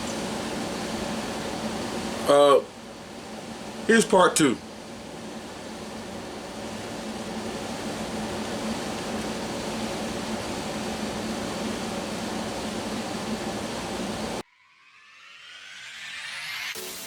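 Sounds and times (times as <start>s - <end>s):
fan-like hiss: 0.0s - 14.4s.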